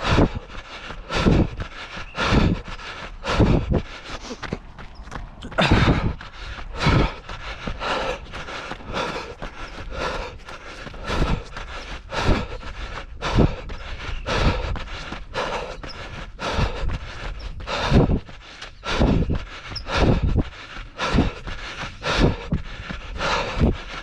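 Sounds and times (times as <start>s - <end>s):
hard breathing: 0.0s - 24.0s
running footfalls: 0.0s - 24.0s.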